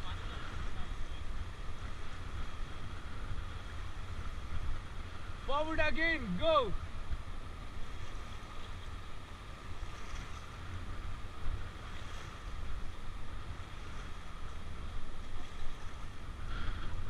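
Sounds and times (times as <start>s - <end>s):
paddles in water: 0.0s - 17.0s
river water rushing: 0.0s - 17.0s
wind rumbling on microphone: 0.0s - 17.0s.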